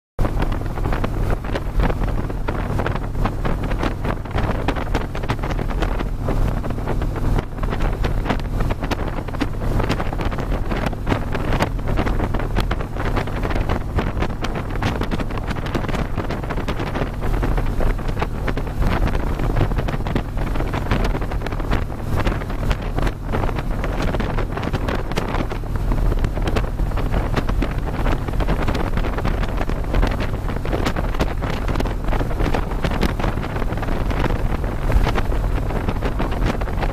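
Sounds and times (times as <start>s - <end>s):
motorcycle engine drone: 0.2s - 36.9s
wind buffeting microphone: 0.2s - 36.9s.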